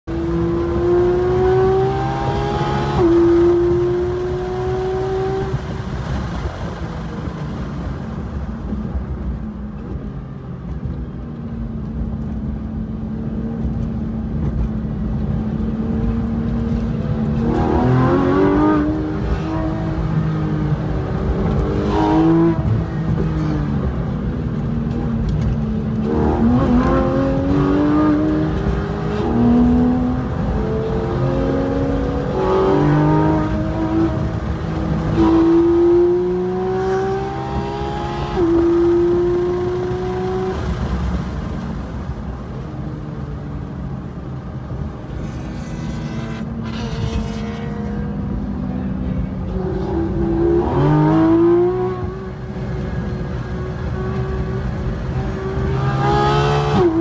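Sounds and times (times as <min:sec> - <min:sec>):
sports car engine accelerating: 0:00.1 - 0:05.8, 0:11.4 - 0:44.8, 0:45.7 - 0:57.0.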